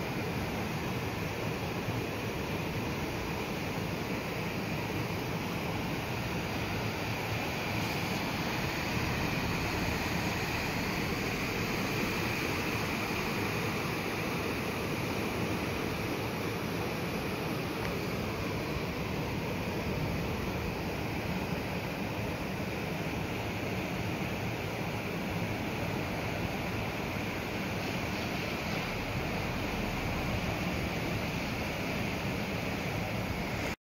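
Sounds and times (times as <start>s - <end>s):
river rushing: 0.0s - 33.8s.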